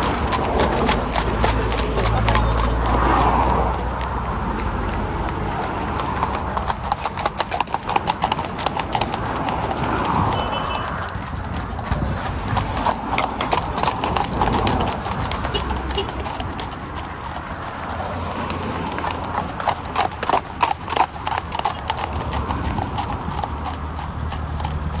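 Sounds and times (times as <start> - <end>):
hooves clip-clopping on asphalt: 0.0 - 25.0.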